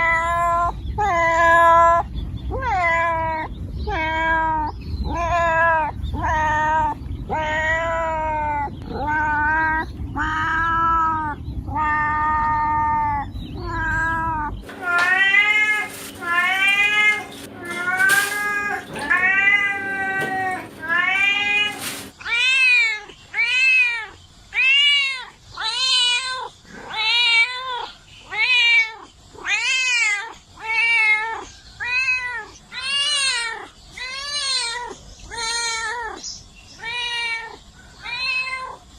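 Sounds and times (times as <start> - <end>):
cats meowing: 0.0 - 38.9.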